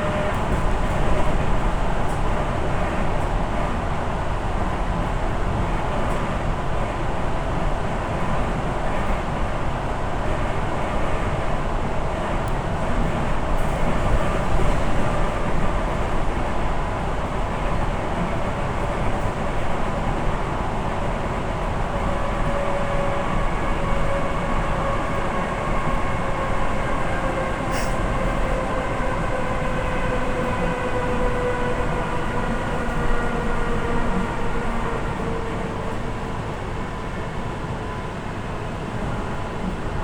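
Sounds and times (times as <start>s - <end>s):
electric train rumbling on rails: 0.0s - 40.0s.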